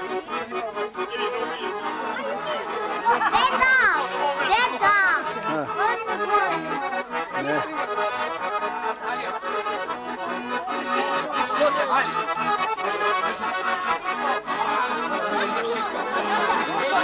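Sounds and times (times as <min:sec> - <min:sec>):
accordion dance tune: 0:00.0 - 0:17.0.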